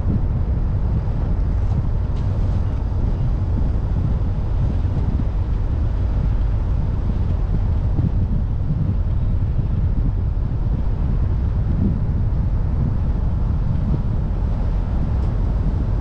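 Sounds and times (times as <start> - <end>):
road noise from moving car: 0.0 - 16.0
wind buffeting microphone: 0.0 - 16.0.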